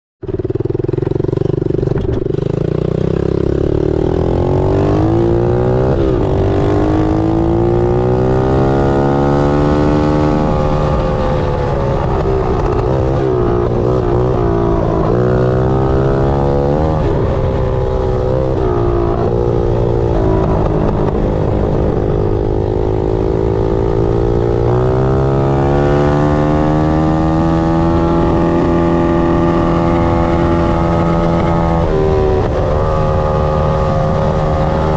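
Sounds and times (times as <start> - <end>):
motorbike engine revving: 0.3 - 34.9.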